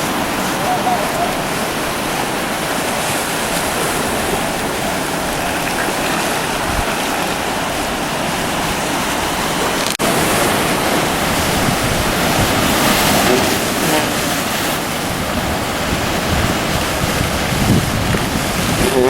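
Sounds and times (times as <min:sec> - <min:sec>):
ocean surf washing: 0:00.0 - 0:19.0.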